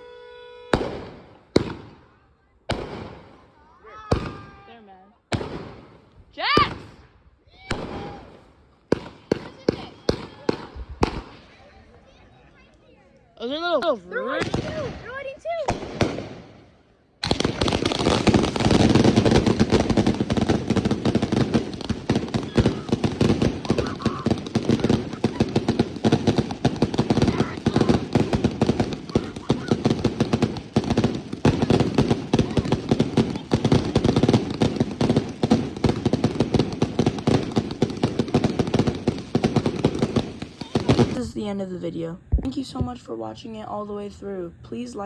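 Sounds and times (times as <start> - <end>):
fireworks cracking and popping: 0.8 - 2.1, 2.7 - 3.5, 4.1 - 4.7, 5.3 - 11.5, 14.4 - 41.5.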